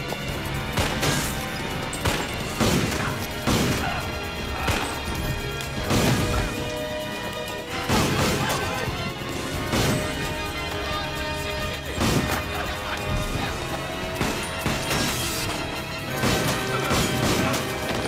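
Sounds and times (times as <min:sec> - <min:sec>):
action movie music: 0:00.0 - 0:18.0
gunshots: 0:00.0 - 0:18.0.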